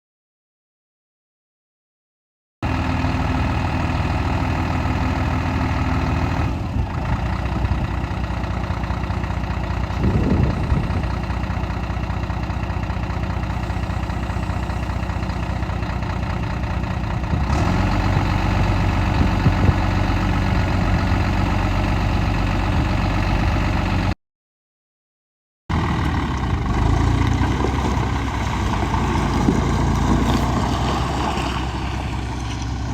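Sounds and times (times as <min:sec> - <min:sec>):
diesel truck engine idling: 0:02.6 - 0:24.2, 0:25.7 - 0:32.9.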